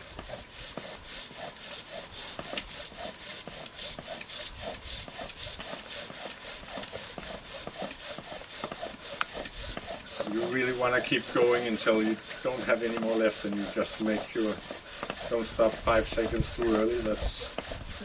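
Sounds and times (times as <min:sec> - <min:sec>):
bow drill rasping squeak: 0:00.0 - 0:18.0.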